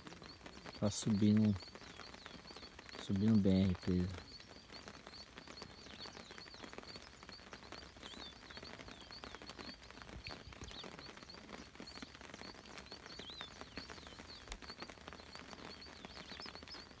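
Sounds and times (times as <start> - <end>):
birds chirping: 0.0 - 17.0
raindrops pattering: 0.0 - 17.0.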